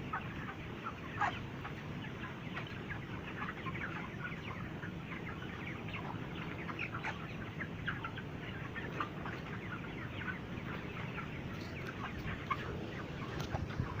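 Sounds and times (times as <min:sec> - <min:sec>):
chickens clucking and calling: 0:00.0 - 0:14.0.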